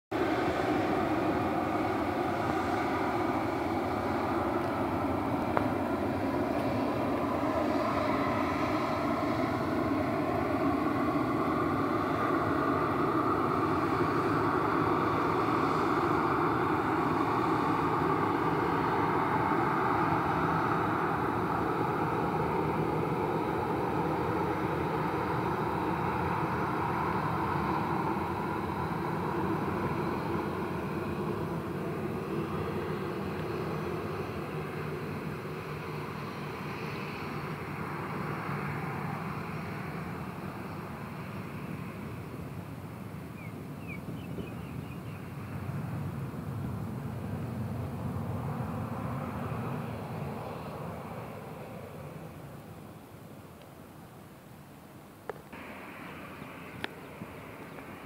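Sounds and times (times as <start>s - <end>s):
distant jet engines running: 0.1s - 58.0s.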